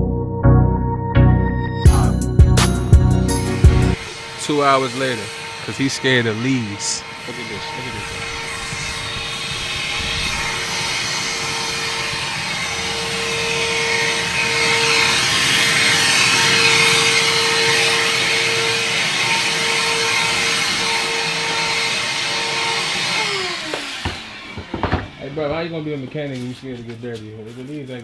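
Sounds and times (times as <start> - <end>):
leaf blower running: 1.9 - 27.0.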